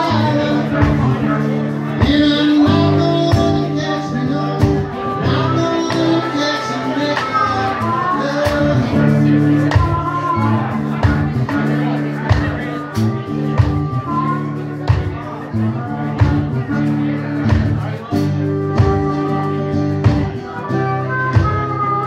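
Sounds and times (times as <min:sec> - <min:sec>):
guitar playing: 0:00.0 - 0:22.0.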